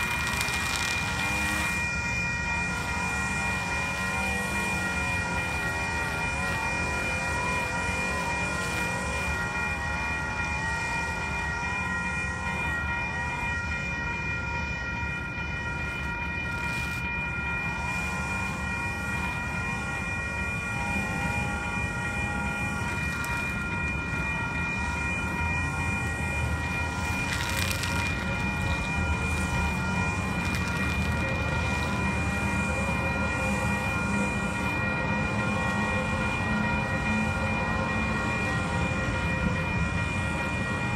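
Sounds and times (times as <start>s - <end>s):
railway crossing bell ringing: 0.0s - 40.9s
train rumble: 0.0s - 40.9s.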